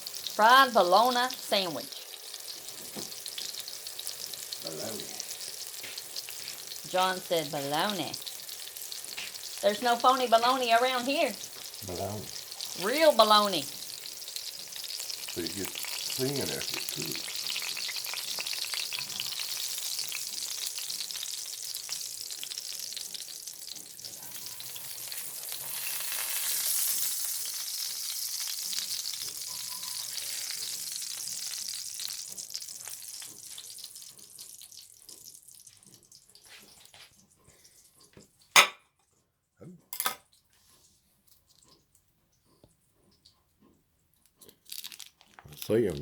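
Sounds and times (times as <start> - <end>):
meat sizzling in a pan: 0.0 - 37.8.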